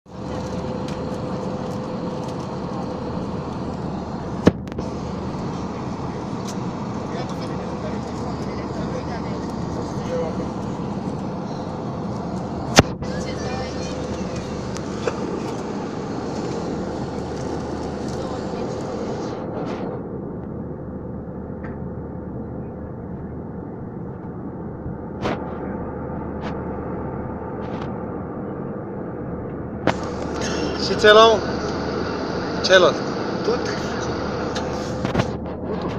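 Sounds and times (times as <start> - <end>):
aircraft cabin engine noise: 0.0 - 35.9.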